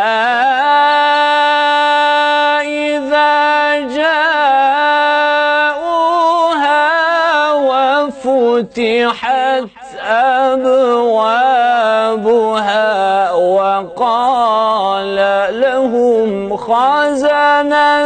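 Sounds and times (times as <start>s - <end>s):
man chanting a recitation: 0.0s - 18.0s.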